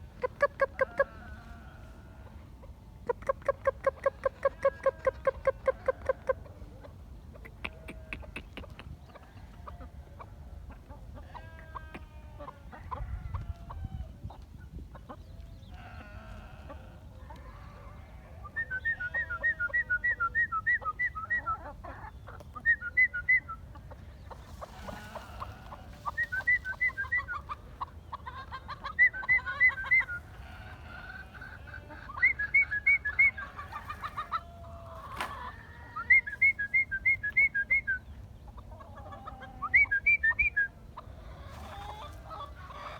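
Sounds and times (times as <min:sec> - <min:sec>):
faint bird calls: 0:03.0 - 0:09.9, 0:15.0 - 0:42.9.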